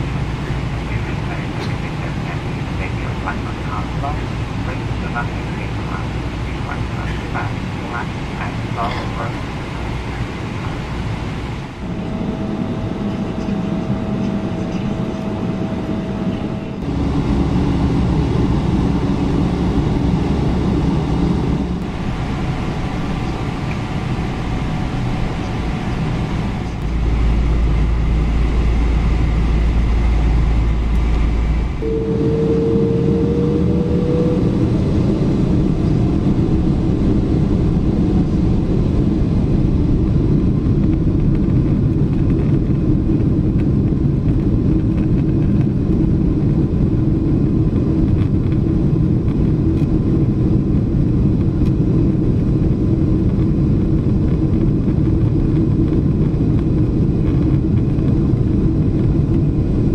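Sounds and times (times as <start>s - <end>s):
jet engines at takeoff power: 0.0s - 59.9s
rising engine whine: 0.0s - 59.9s
takeoff roll rumble: 0.0s - 59.9s.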